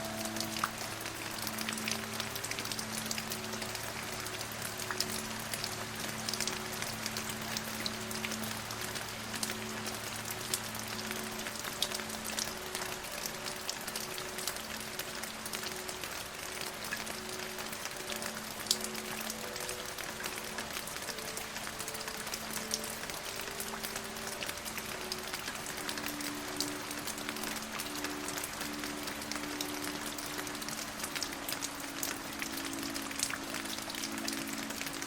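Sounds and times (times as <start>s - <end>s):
low music drone: 0.0s - 35.0s
steady rain falling: 0.0s - 35.0s.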